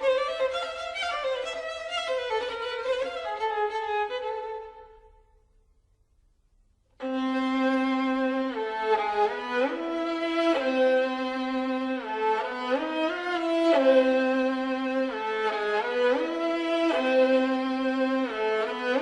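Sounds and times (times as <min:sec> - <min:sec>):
slow bowed string melody: 0:00.0 - 0:05.2, 0:07.0 - 0:19.0.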